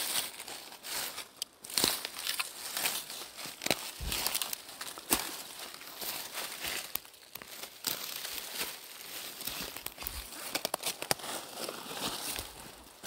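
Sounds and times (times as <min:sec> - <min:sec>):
footsteps in dry leaves: 0:00.0 - 0:13.0.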